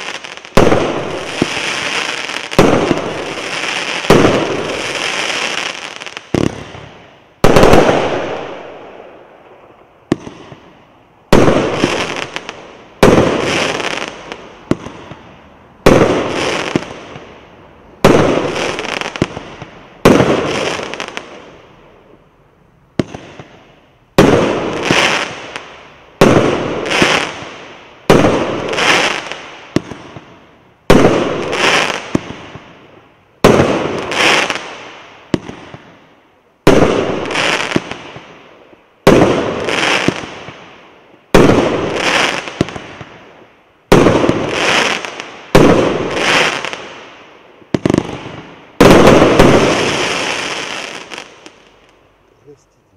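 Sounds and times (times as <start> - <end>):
firework bangs: 0.0 - 22.1, 22.9 - 52.6
firework crackling: 0.0 - 22.2, 23.0 - 52.9.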